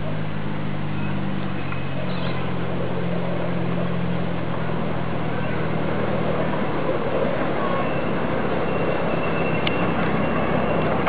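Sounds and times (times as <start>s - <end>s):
low motor hum: 0.0s - 11.0s
wheel and rail noise: 0.0s - 11.0s.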